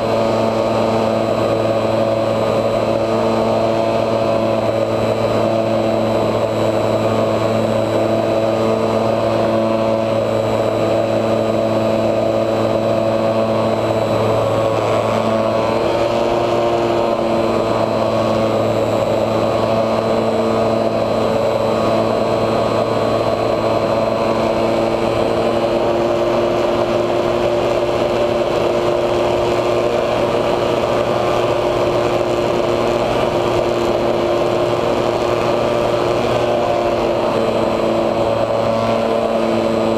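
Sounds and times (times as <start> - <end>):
model plane motor and propeller whine: 0.0 - 39.9.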